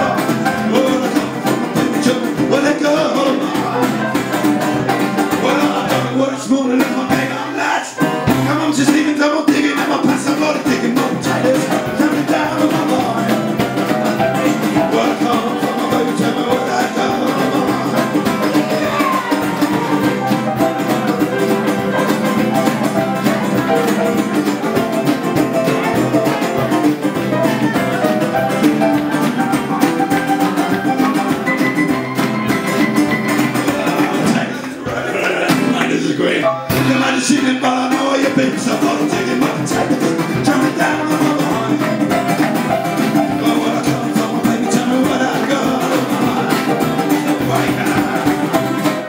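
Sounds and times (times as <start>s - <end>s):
banjo: 0.0s - 49.0s
drum kit: 0.0s - 49.0s
upright piano: 0.0s - 49.0s.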